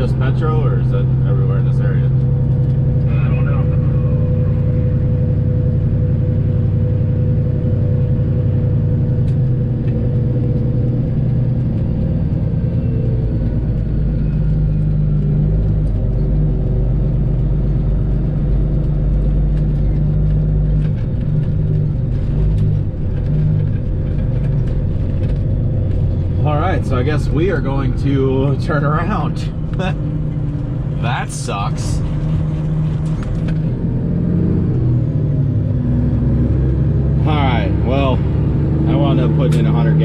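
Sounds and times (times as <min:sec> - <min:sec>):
truck diesel engine rumbling: 0:00.0 - 0:40.0.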